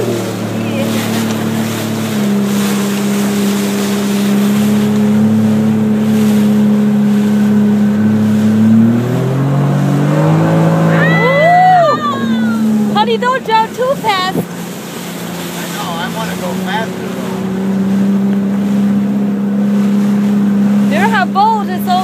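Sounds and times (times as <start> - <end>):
jet ski engine: 0.0 - 22.0
wind and water spray rushing: 0.0 - 22.0.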